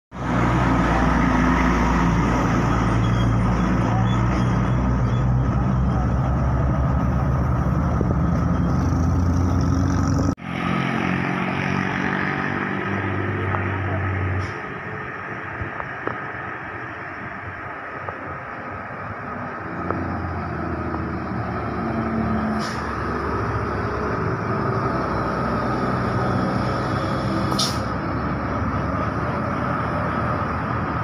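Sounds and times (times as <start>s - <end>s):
cars and motorcycles passing: 0.2s - 31.0s
truck engine droning: 0.2s - 31.0s.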